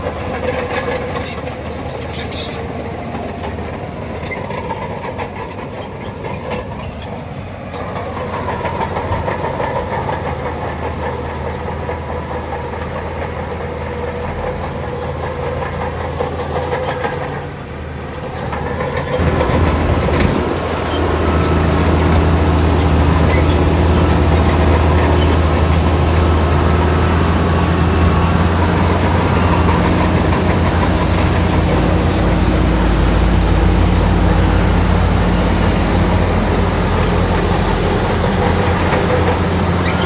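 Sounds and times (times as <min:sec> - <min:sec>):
bulldozer diesel engine: 0:00.0 - 0:40.0
steel tracks clanking: 0:00.0 - 0:40.0.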